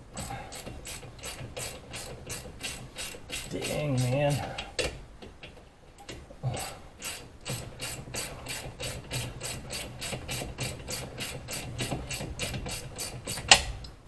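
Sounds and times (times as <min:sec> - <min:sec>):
hand ratchet clicking: 0:00.0 - 0:05.0, 0:06.0 - 0:13.7.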